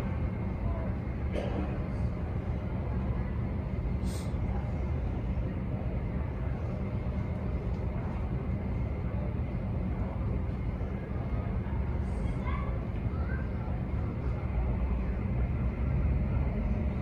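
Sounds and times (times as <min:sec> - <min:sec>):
low rumble of ramp machinery: 0:00.0 - 0:17.0.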